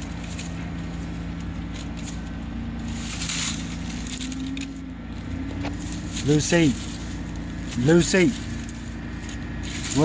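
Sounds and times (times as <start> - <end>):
low mechanical hum: 0.0 - 10.0
short rustle: 0.0 - 10.0.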